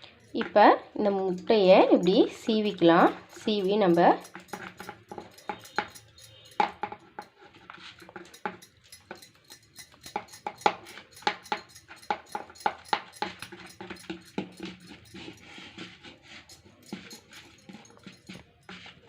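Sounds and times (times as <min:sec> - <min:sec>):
egg grating on a hand grater: 0:02.0 - 0:19.0.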